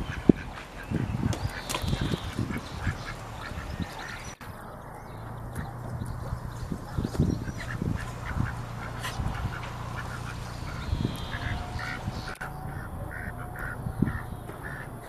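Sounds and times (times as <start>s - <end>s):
ducks quacking: 0.0s - 4.8s, 5.4s - 15.0s.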